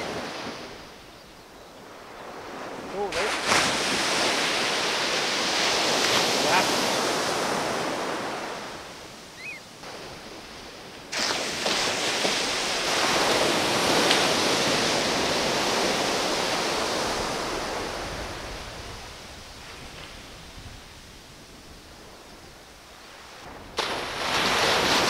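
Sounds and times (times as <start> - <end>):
waves crashing on beach: 0.0 - 25.0.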